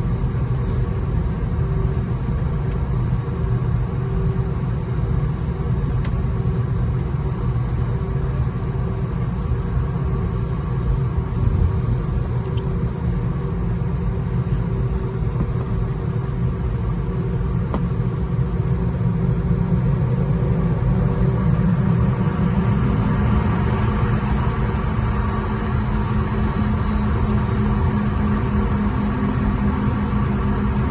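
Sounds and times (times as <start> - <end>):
airliner cabin rumble: 0.0 - 30.9
jet engines humming: 0.0 - 30.9.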